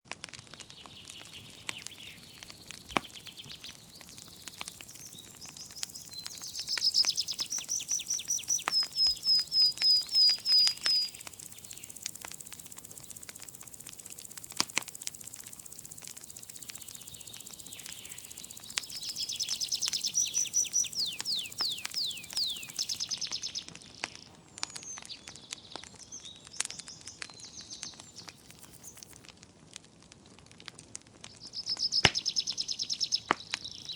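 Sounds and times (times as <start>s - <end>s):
wood fire crackling and popping: 0.1s - 33.9s
songbird singing: 0.5s - 29.2s, 31.4s - 33.9s.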